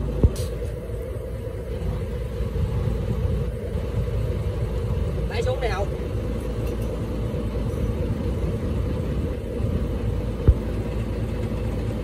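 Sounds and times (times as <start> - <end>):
small boat motor idling: 0.0 - 12.0.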